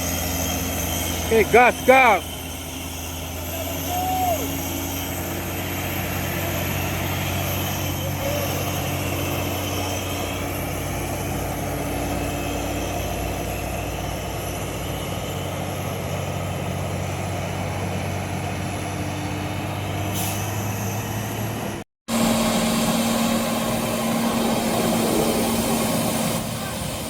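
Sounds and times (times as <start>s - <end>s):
heavy truck engine droning: 0.0s - 27.0s.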